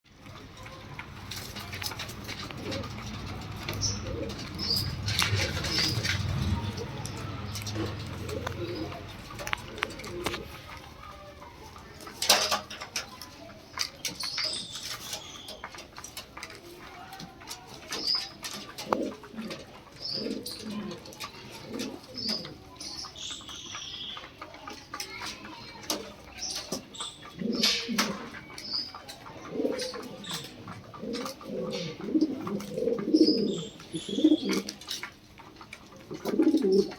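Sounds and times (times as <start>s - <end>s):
pigeons cooing: 0.1s - 36.9s.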